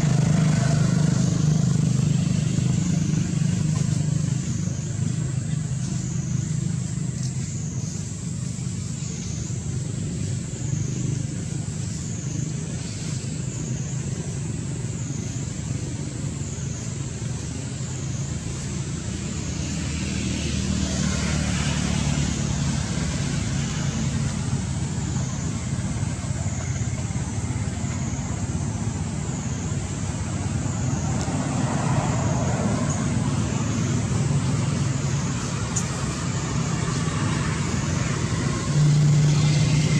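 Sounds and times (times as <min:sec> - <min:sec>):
distant road traffic rumble: 0:00.0 - 0:39.9
high wavering whine: 0:00.0 - 0:39.9.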